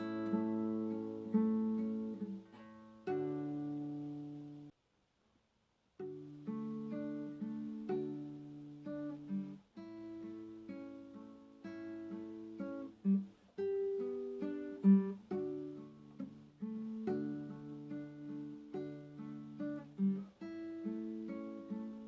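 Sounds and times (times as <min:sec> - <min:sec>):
acoustic guitar played softly: 0:00.0 - 0:04.8, 0:06.0 - 0:22.0.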